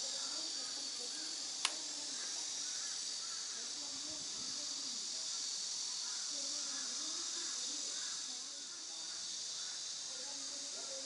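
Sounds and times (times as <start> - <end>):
faint distant human voices: 0.0 - 11.0
high-pitched insect chorus: 0.0 - 11.0.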